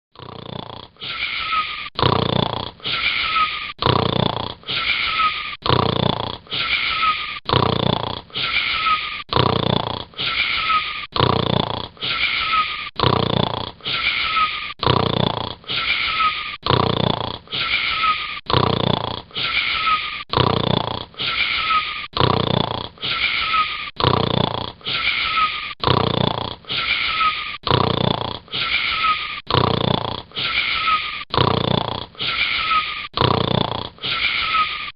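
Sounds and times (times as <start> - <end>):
person snoring: 0.2 - 34.9.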